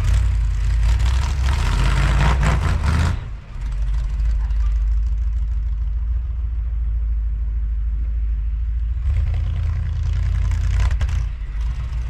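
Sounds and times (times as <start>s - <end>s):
pickup truck engine rumbling: 0.0s - 12.0s.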